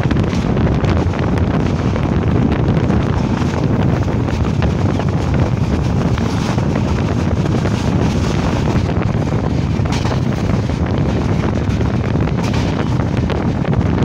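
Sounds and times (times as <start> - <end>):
train running at speed: 0.0 - 14.0
wind buffeting microphone: 0.0 - 14.0.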